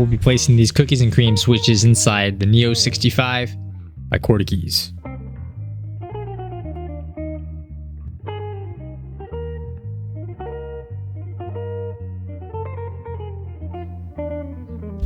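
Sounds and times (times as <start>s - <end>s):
plucked guitar music with bass: 0.0s - 15.0s.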